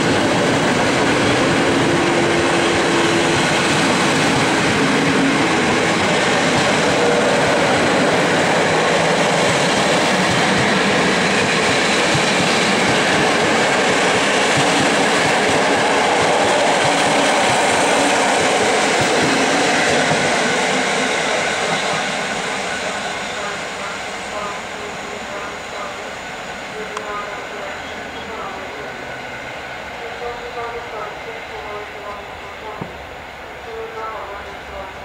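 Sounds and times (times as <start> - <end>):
train wheels rolling on track: 0.0 - 35.0.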